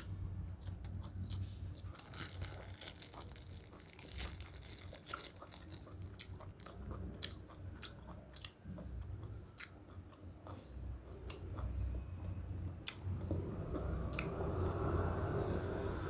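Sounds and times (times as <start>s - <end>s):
person chewing crunchy vegetables: 0.0s - 14.4s.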